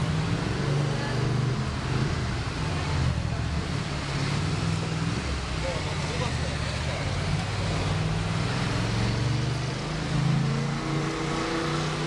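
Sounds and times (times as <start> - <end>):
steady road noise: 0.0 - 12.0
vehicle engine accelerating: 0.0 - 12.0.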